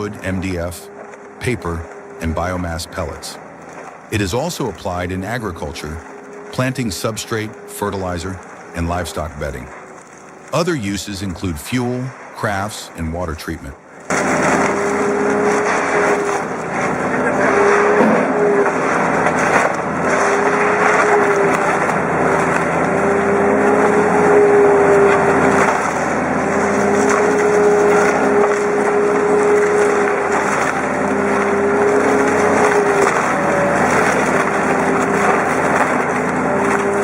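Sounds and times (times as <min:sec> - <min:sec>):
wood crackling as it is shredded: 0:00.0 - 0:37.0
wood-processing machine engine: 0:00.0 - 0:37.0.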